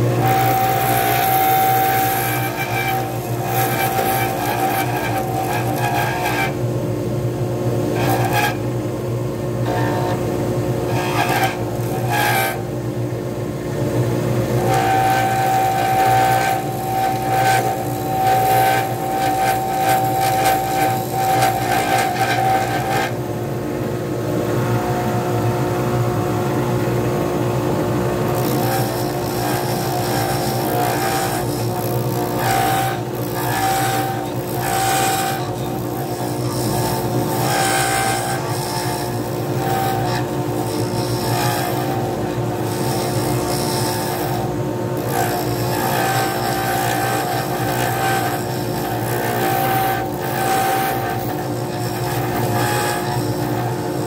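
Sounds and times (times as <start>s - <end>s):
lathe motor hum: 0.0s - 7.3s, 7.9s - 23.3s, 28.2s - 54.0s
turning tool scraping: 0.2s - 6.6s, 7.9s - 8.7s, 10.8s - 12.7s, 14.5s - 23.2s, 28.3s - 54.0s.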